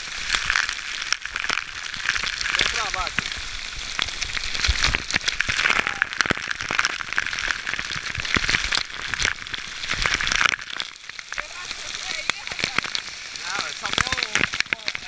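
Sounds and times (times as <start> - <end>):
waterfall spraying on camera: 0.0 - 15.0.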